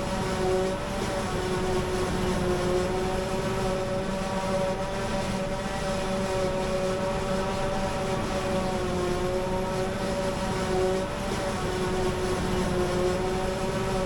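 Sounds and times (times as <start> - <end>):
machinery whine: 0.0 - 14.0.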